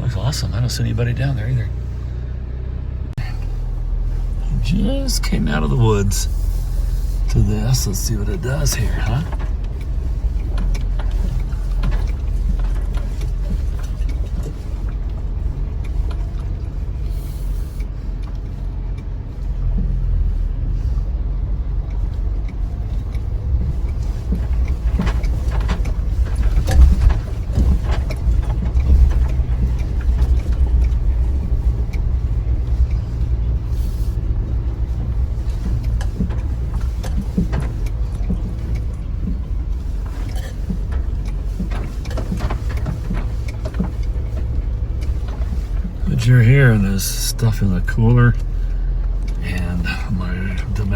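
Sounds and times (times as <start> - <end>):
low rumble of engine and tyres: 0.0 - 50.9
knocks and rattles of loose gear: 3.0 - 50.9.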